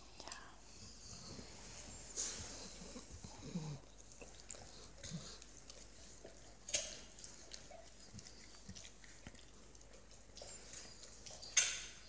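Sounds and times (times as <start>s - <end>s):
dog mouth and breathing sounds: 0.0s - 12.0s.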